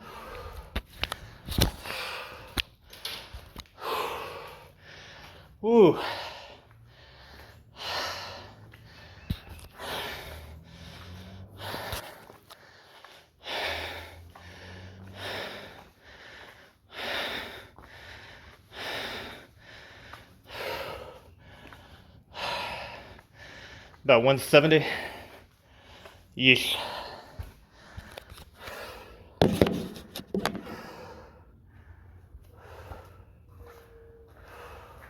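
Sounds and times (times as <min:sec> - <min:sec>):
heavy breathing: 0:00.0 - 0:35.0.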